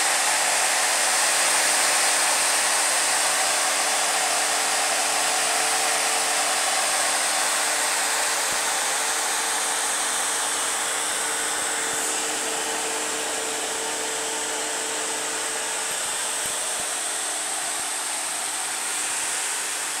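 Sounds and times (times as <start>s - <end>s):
cooling fans rushing air: 0.0s - 20.0s.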